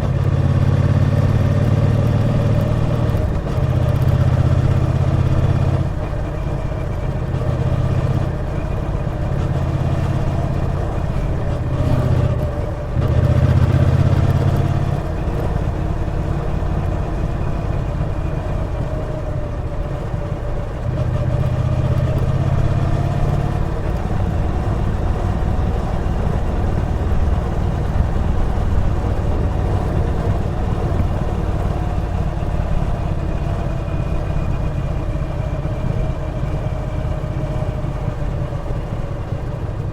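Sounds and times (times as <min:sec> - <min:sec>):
motorcycle engine revving: 0:00.0 - 0:39.8.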